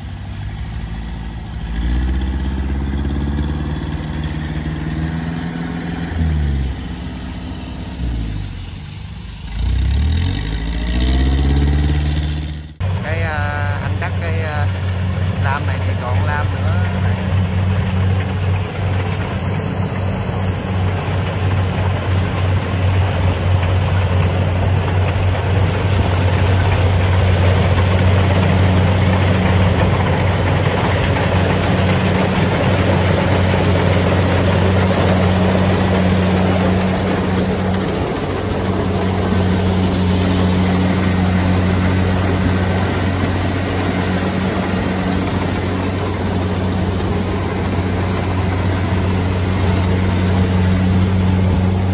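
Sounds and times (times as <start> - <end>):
diesel engine drone: 0.0 - 51.9.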